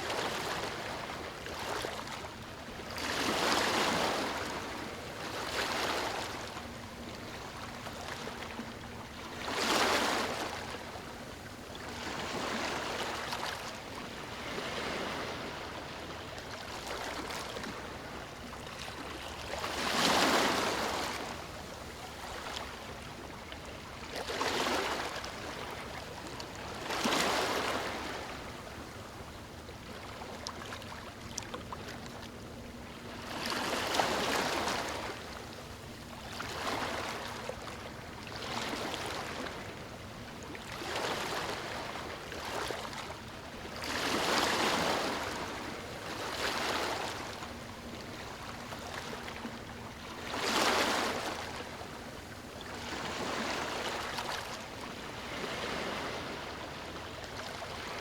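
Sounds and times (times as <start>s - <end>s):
small waves breaking on beach: 0.0s - 31.2s, 33.0s - 58.0s.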